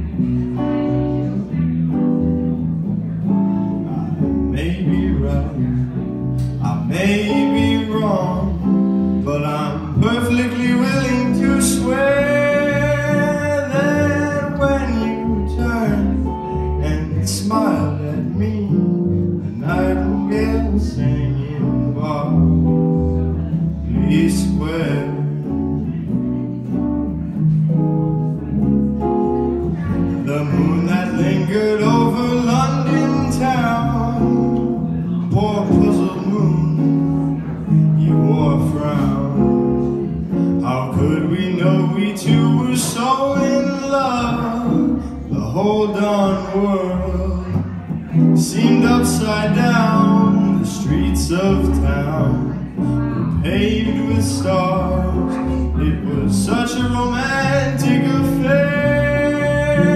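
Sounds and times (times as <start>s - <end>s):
man singing: 0.0s - 27.7s, 28.3s - 59.9s
double bass: 0.0s - 59.9s
guitars: 0.0s - 59.9s.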